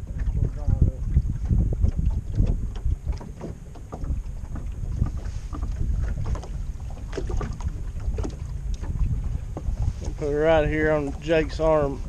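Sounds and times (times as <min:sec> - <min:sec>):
water lapping against boat hull: 0:00.0 - 0:12.0
wind buffeting microphone: 0:00.0 - 0:12.0.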